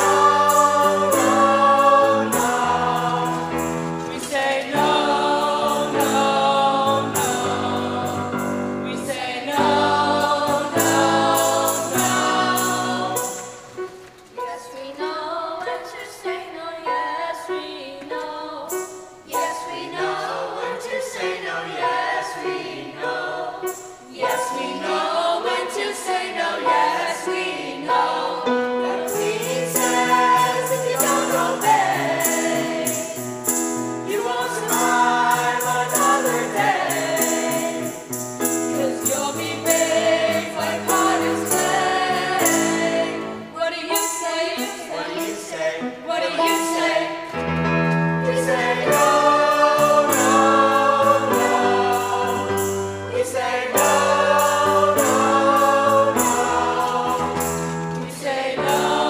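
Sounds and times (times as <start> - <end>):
instrumental accompaniment: 0.0 - 15.1, 17.6 - 59.0
choir singing: 0.0 - 59.0.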